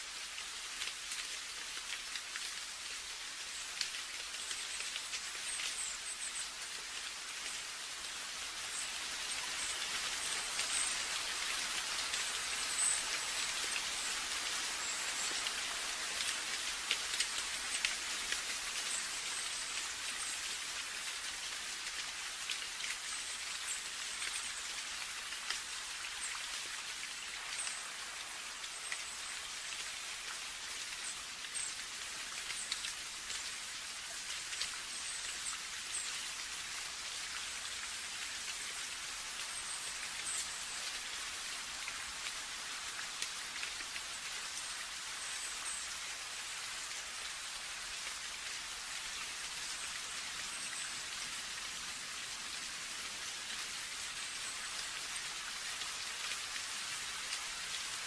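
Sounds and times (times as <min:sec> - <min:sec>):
rain hissing: 0:00.0 - 0:58.0
raindrops ticking on a surface: 0:00.0 - 0:58.0.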